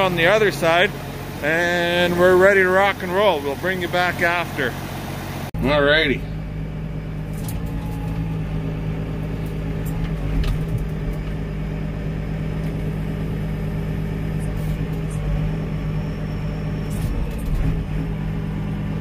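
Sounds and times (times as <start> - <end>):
tractor engine running steadily: 0.0 - 19.0.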